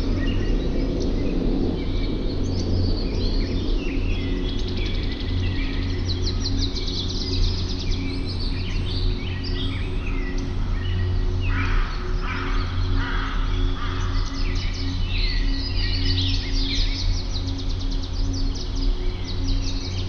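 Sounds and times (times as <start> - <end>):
birds chirping and singing: 0.0 - 20.0
steady low hum: 0.0 - 20.0.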